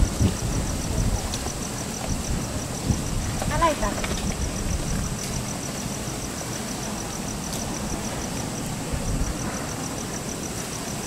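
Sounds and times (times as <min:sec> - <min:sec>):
insect trilling: 0:00.0 - 0:11.0
wind buffeting microphone: 0:00.0 - 0:11.0.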